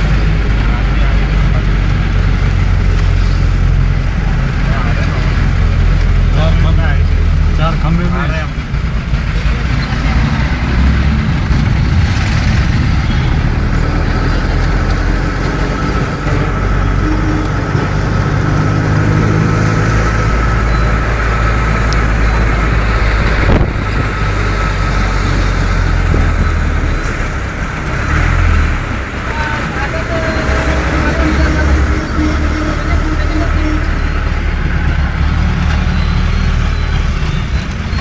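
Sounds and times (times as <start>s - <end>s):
vehicle engine and road drone: 0.0s - 38.0s.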